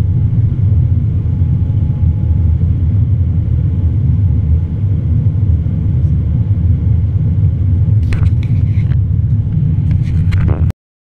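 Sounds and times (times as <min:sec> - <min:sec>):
aircraft cabin engine rumble: 0:00.0 - 0:10.7.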